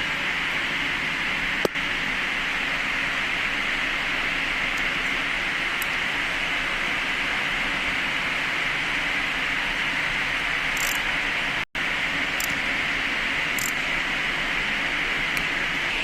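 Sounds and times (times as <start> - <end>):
fan blowing air: 0.0 - 16.0.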